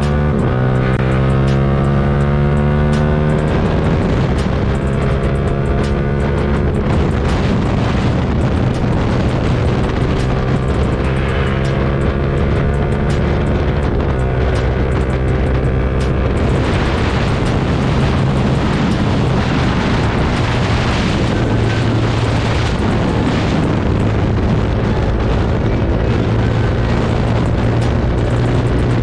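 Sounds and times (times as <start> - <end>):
motorcycle engine revving: 0.0 - 29.0
exhaust crackling pops: 2.8 - 29.0.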